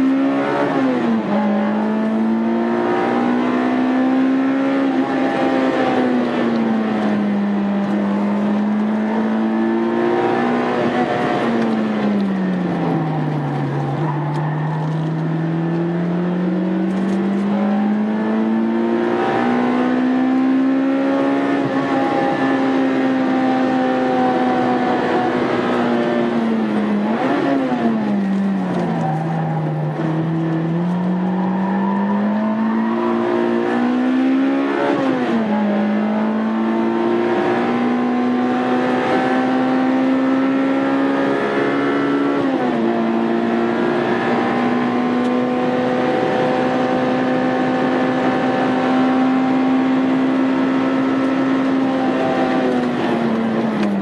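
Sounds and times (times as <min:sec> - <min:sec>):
car engine running hard: 0:00.0 - 0:54.0.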